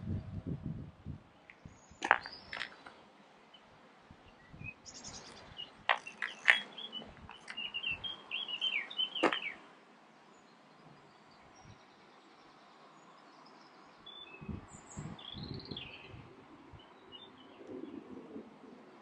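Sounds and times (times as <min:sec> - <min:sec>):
songbirds chirping: 0:01.2 - 0:19.0.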